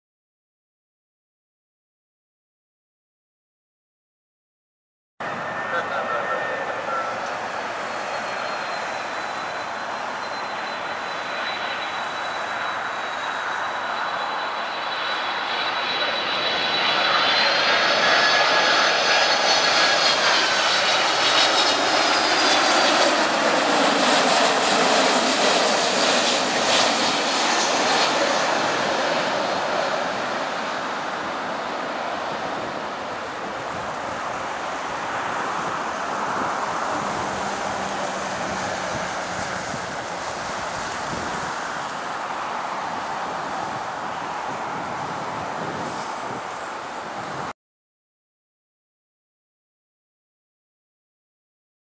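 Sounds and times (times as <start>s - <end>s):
deep jet rush: 5.2s - 47.5s
jet engine fan whine: 5.2s - 47.5s.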